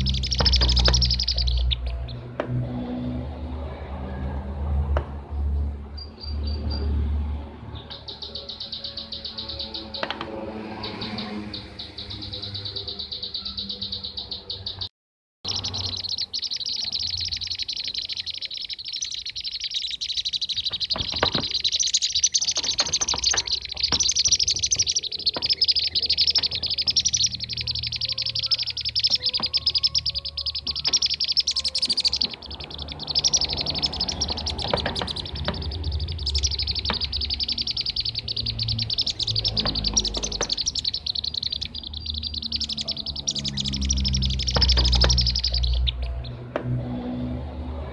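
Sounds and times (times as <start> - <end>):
bee-eaters rolling trills: 0.0 - 5.0, 5.7 - 14.9, 15.5 - 47.9.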